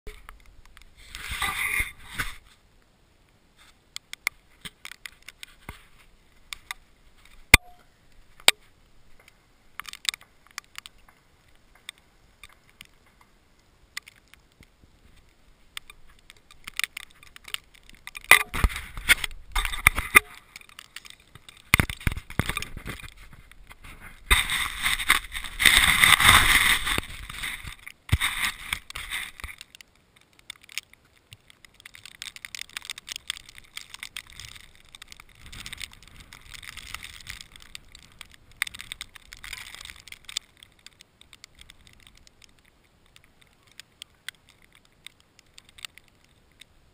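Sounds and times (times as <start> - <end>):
rustling on microphone: 0.1 - 2.8, 3.5 - 46.8.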